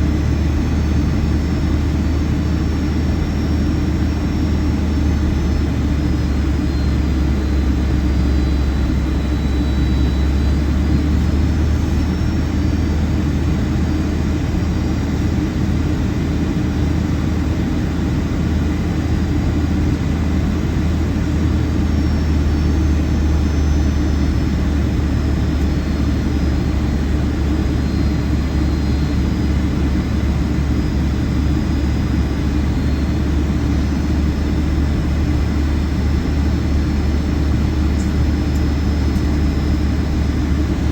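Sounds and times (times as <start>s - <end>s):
faint high whining tones: 0.0s - 15.6s, 18.5s - 40.9s
airliner cabin engine drone: 0.0s - 40.9s.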